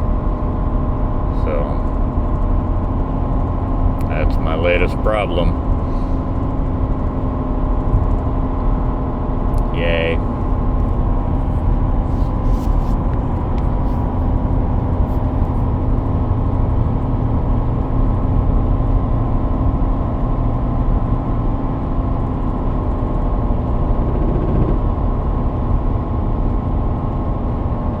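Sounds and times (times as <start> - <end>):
truck engine and road noise: 0.0 - 28.0.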